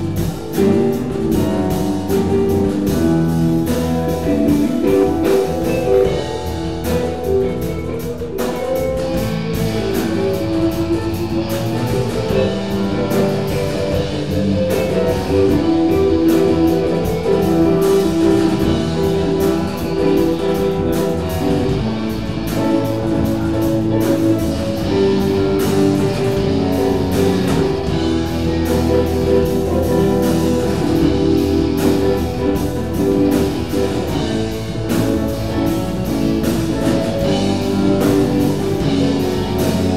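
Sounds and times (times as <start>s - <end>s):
electric guitar lines: 0.0s - 39.9s
rock band jamming: 0.0s - 39.9s.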